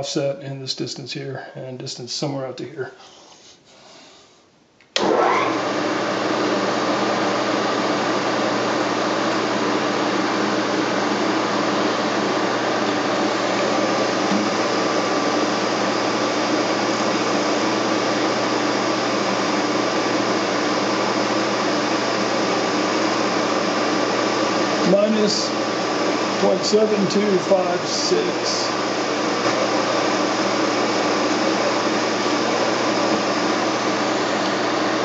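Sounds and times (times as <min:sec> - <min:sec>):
milling machine whirring hum: 0:05.0 - 0:35.0.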